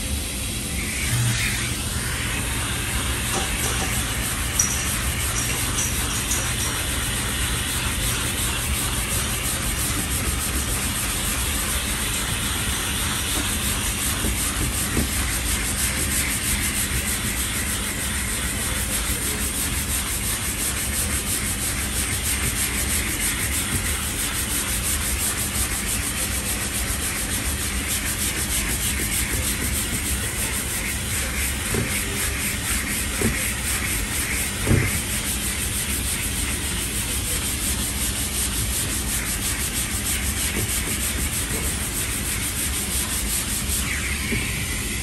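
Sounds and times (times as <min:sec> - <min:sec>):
dust extractor humming: 0:00.0 - 0:45.0
hand sanding rubbing strokes: 0:00.7 - 0:45.0.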